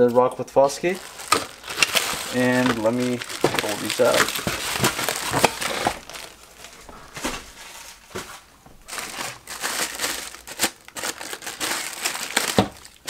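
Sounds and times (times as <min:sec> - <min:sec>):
plastic bag crinkling: 0:00.8 - 0:13.0.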